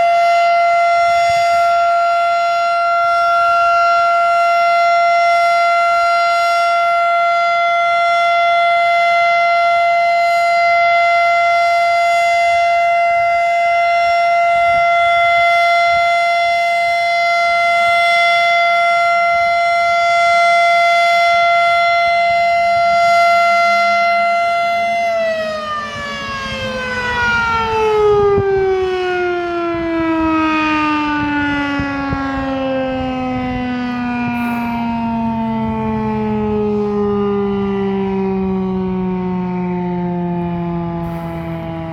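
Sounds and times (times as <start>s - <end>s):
warning siren: 0.0s - 41.9s.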